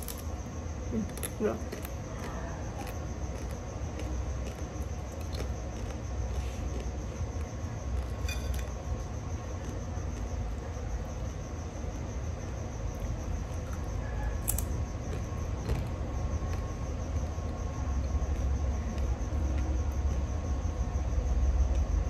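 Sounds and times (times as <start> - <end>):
faint constant hum: 0.0 - 22.0.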